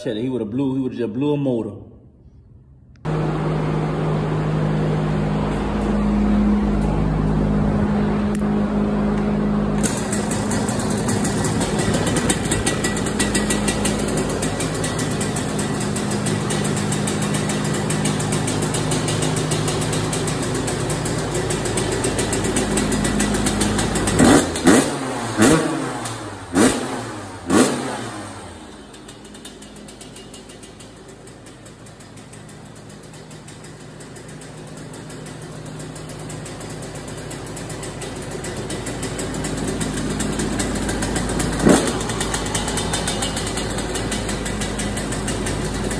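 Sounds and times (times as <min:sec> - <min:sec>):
motorcycle engine revving: 0:03.1 - 0:45.9.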